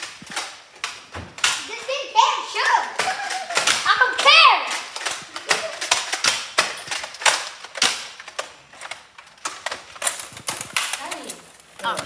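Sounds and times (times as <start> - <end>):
toy blasters clacking and popping: 0.0 - 12.0.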